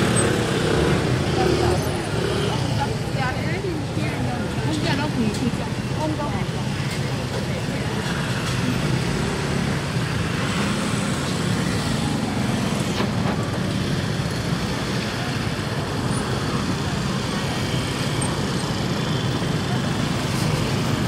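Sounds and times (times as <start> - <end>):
market crowd voices: 0.0 - 21.0
motor scooters passing: 0.0 - 21.0.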